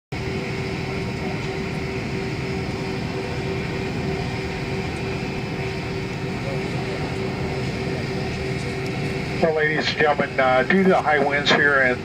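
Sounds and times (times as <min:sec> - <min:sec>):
jet engines idling: 0:00.1 - 0:12.0
constant mid-pitched hum: 0:00.2 - 0:12.0.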